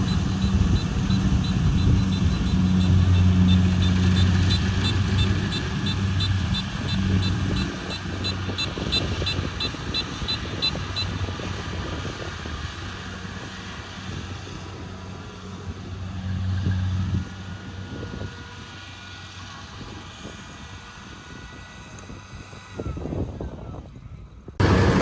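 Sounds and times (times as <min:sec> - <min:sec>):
combine harvester diesel engine: 0:00.0 - 0:22.6, 0:24.6 - 0:25.0.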